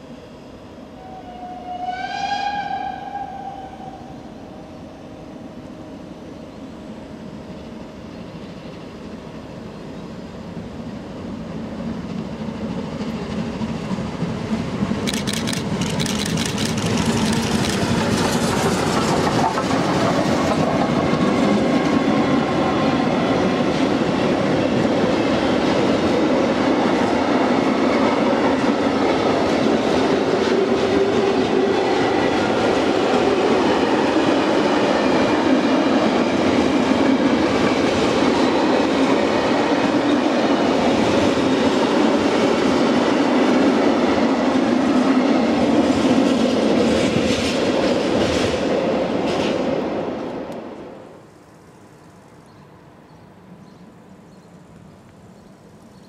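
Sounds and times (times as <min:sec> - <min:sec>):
train wheel and rail noise: 0:00.0 - 0:56.0.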